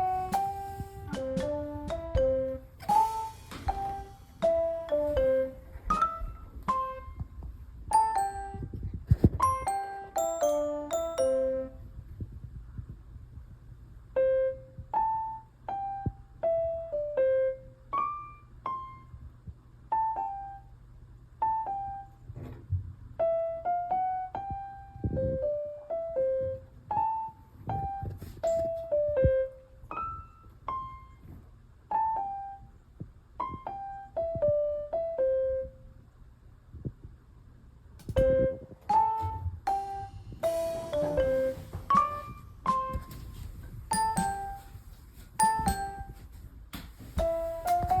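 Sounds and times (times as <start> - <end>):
slow piano melody: 0.0 - 12.0, 14.1 - 22.2, 23.2 - 31.2, 31.9 - 32.8, 33.4 - 35.9, 38.2 - 46.4
faint low hum: 0.0 - 48.0.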